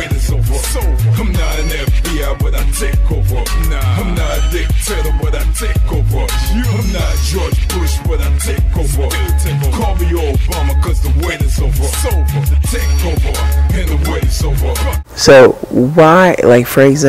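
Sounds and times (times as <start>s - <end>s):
heavy bass beat with hi-hats: 0.0s - 15.1s
man rapping: 0.0s - 15.1s.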